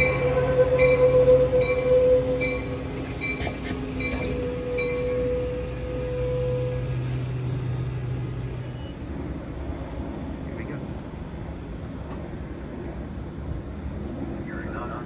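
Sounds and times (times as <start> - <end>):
train cars rolling rumble: 0.0 - 15.0.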